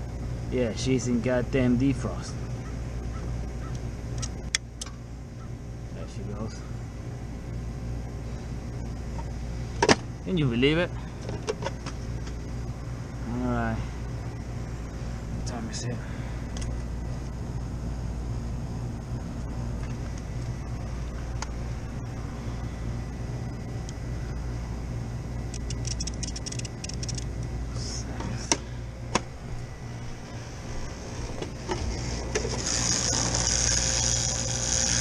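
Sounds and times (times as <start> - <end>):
condensing unit humming: 0.0 - 35.0.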